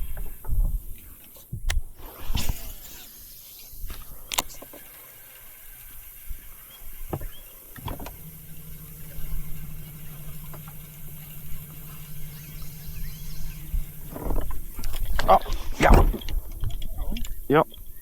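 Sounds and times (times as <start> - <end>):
electric motor humming: 2.0 - 17.9.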